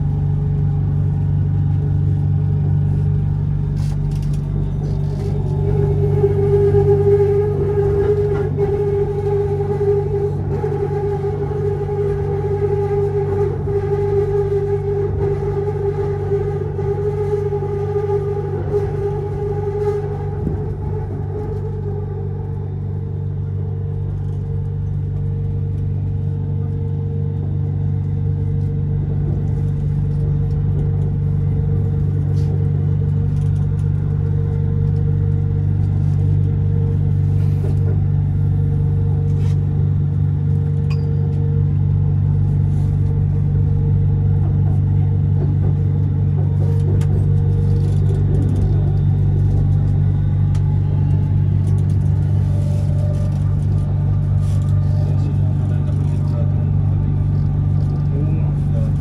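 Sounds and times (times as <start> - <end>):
steady hum: 0.0 - 59.0
train running rumble: 0.0 - 59.0.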